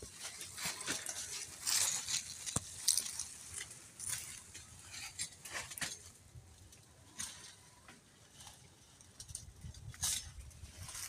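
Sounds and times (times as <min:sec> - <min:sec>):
rustling and crunching leaves: 0:00.0 - 0:11.0.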